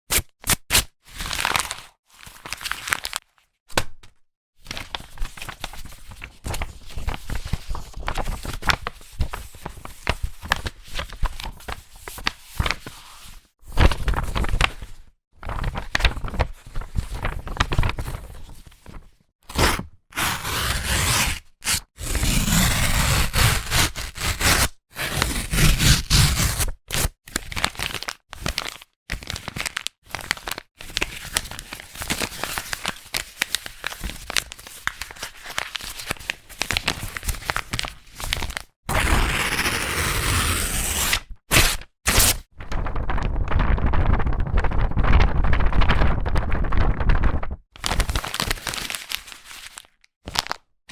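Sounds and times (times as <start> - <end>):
paper being crumpled: 1.2 - 3.4, 4.6 - 50.7.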